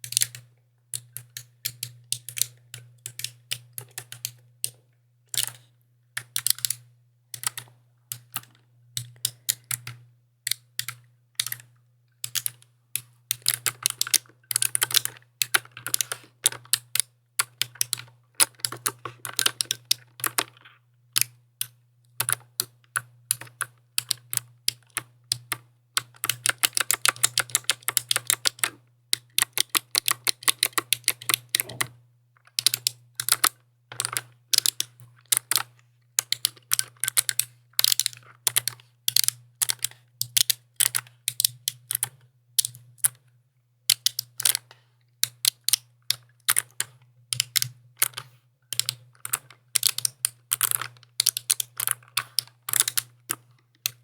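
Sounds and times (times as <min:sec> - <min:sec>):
mechanical keyboard typing: 0:00.0 - 0:43.2, 0:43.9 - 0:54.0.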